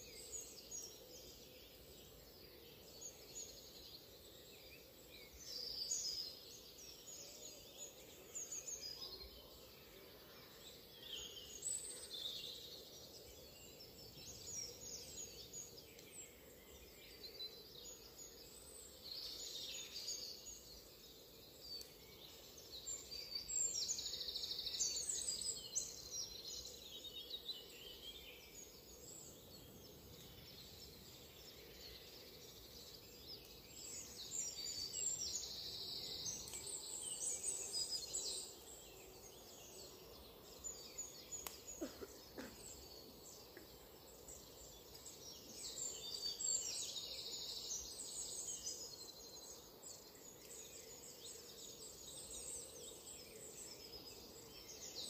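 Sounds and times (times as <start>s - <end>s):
faint background noise: 0.0s - 55.0s.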